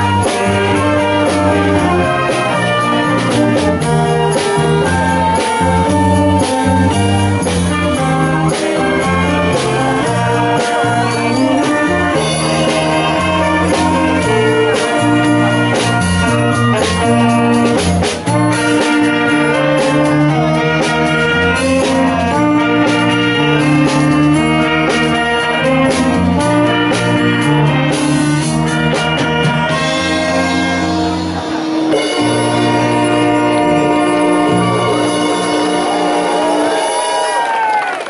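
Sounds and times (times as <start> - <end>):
wind band playing pop tune: 0.0 - 38.0.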